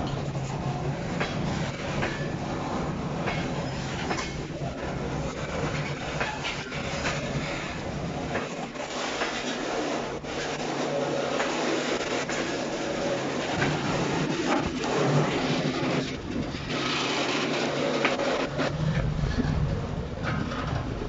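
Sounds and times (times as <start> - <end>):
train rumble: 0.0 - 21.0
train wheels clicking over rail joints: 0.0 - 21.0.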